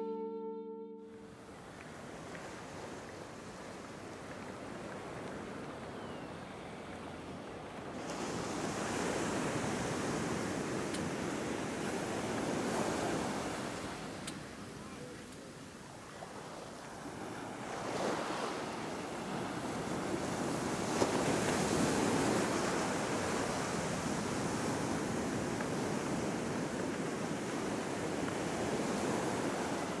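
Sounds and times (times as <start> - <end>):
ocean waves washing onto beach: 1.3 - 30.0.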